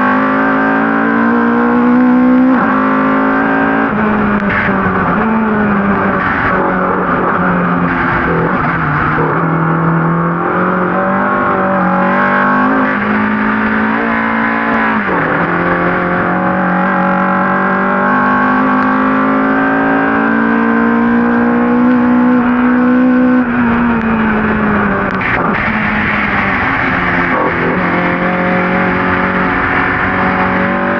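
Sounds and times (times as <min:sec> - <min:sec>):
race car engine at full throttle: 0:00.0 - 0:30.9.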